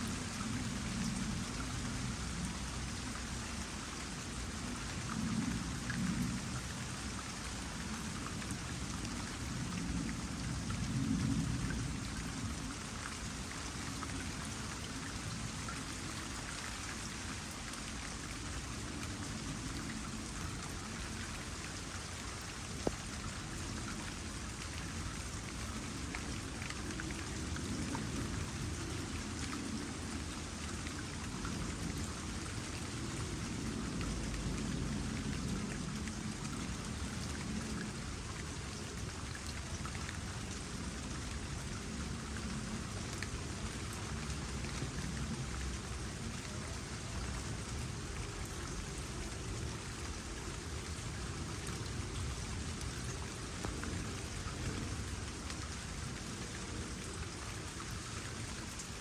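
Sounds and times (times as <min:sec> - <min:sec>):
rain pattering on pond: 0:00.0 - 0:59.0
trickling water: 0:00.0 - 0:59.0.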